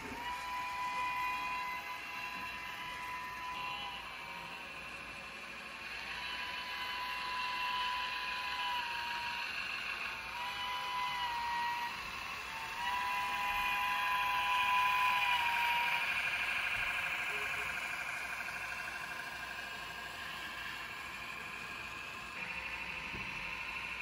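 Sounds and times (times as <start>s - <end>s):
model steam whistle blasts: 0.0s - 4.9s, 5.7s - 20.6s
model trains running hiss: 0.0s - 24.0s.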